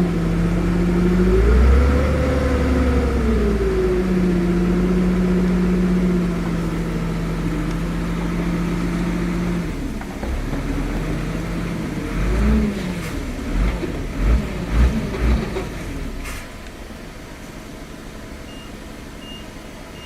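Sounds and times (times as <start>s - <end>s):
heavy vehicle engine revving: 0.0s - 20.0s.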